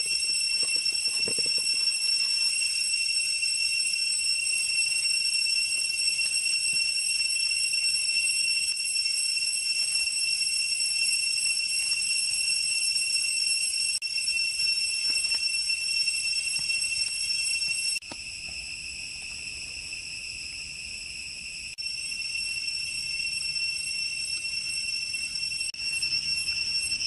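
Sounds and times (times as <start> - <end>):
insect chorus ringing: 0.0 - 27.0.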